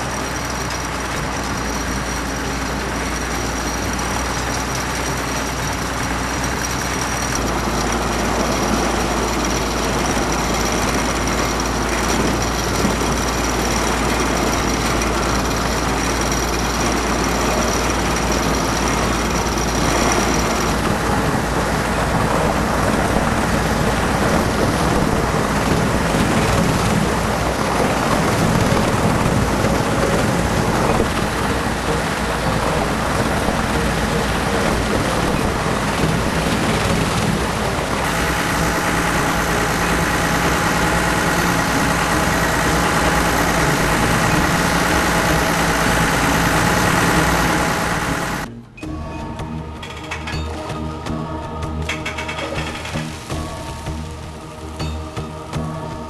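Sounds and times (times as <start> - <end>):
slurry churning and rushing: 0.0 - 48.5
tractor engine drone: 0.0 - 56.0.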